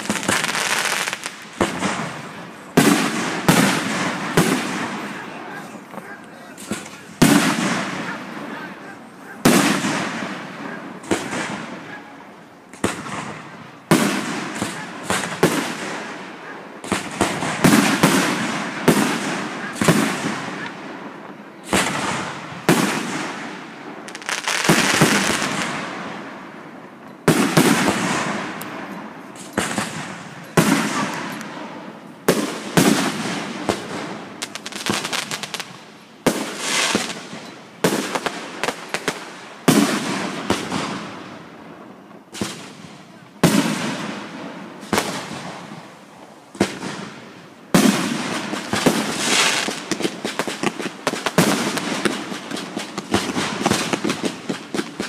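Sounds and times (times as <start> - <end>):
fireworks bursting with echoing rumble: 0.0 - 55.0.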